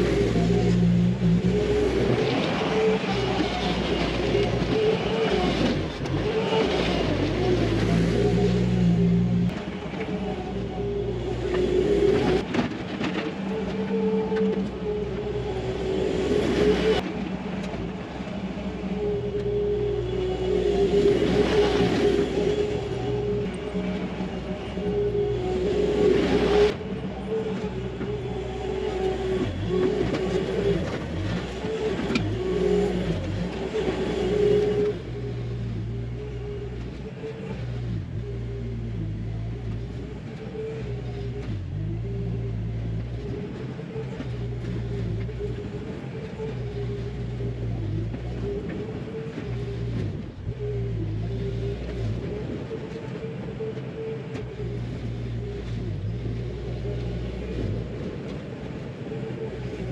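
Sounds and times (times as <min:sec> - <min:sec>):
diesel loader engine running: 0:00.0 - 0:59.9.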